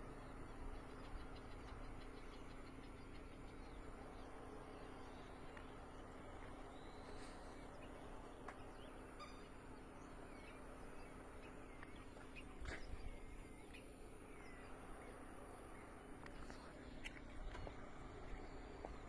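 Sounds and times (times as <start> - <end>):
faint bird chirps: 0.0 - 18.7
low outdoor hiss and rumble: 0.0 - 19.0.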